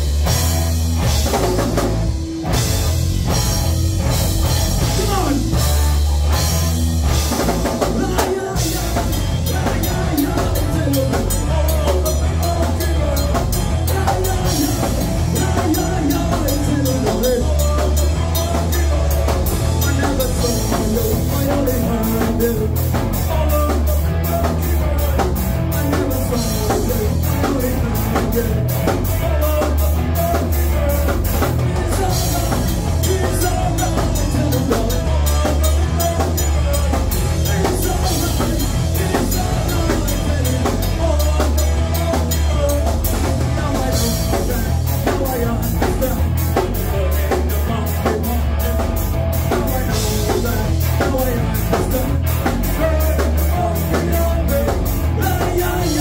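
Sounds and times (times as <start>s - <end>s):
bass guitar: 0.0s - 56.0s
drum kit beat: 0.0s - 56.0s
electric guitars: 0.0s - 56.0s.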